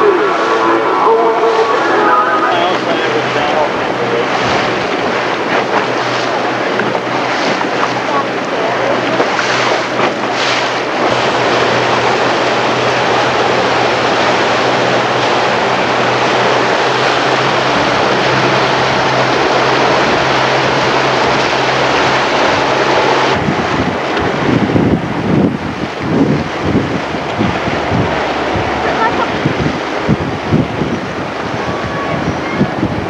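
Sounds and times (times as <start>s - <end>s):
motorboat engine hum: 0.0s - 33.0s
water noise: 0.0s - 33.0s
wind: 0.0s - 33.0s.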